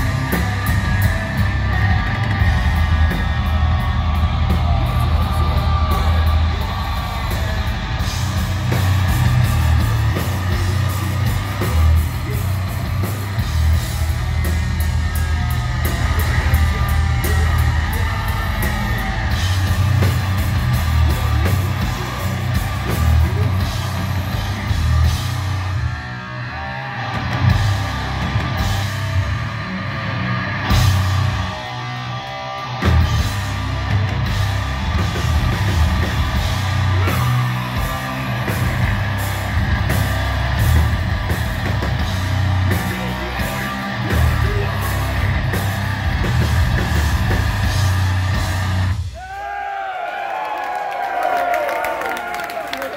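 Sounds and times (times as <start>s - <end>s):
harsh yelled vocals: 0.0s - 25.6s, 34.6s - 52.9s
death metal band playing: 0.0s - 49.8s.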